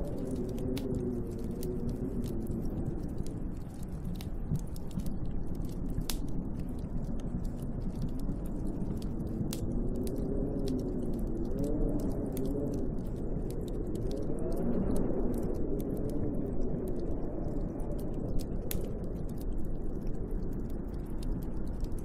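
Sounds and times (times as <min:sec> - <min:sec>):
howling storm wind: 0:00.0 - 0:22.0
sharp clicks and ticks: 0:00.0 - 0:22.0.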